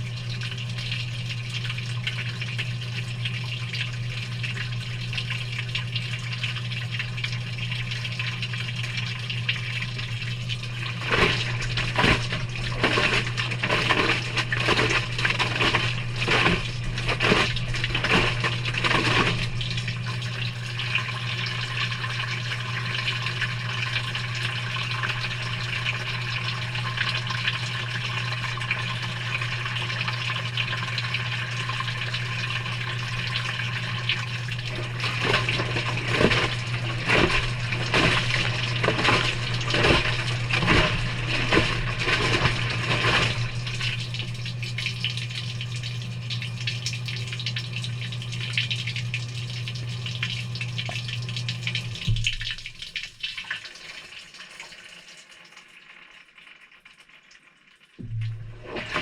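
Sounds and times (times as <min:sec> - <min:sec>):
low machine hum: 0:00.0 - 0:53.1, 0:58.0 - 0:59.0
water sloshing in washing machine: 0:00.0 - 0:59.0.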